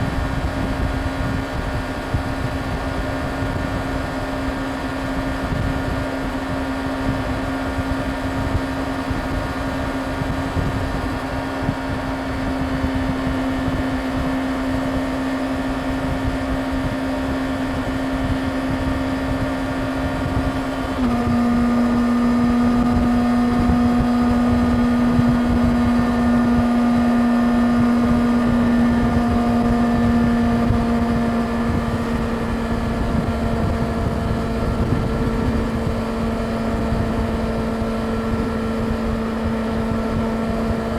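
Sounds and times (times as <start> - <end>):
motorcycle engine cruising: 0.0 - 40.9
wind rush: 0.0 - 40.9.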